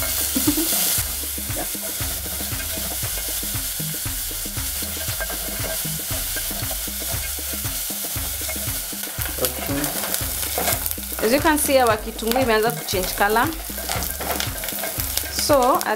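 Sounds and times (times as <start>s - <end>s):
background music: 0.0s - 15.9s
onions sizzling in hot oil: 0.0s - 15.9s
wooden spoon stirring: 0.0s - 15.9s.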